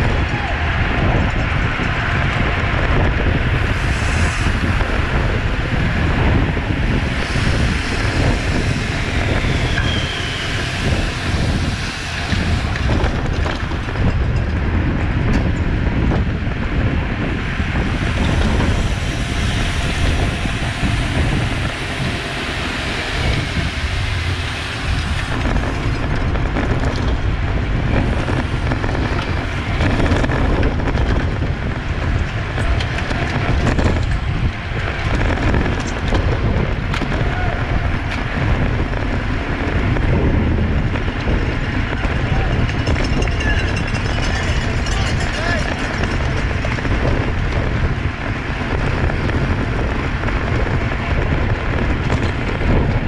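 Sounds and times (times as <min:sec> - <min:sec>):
road and tyre noise: 0:00.0 - 0:53.0
wind rush on microphone: 0:00.0 - 0:53.0.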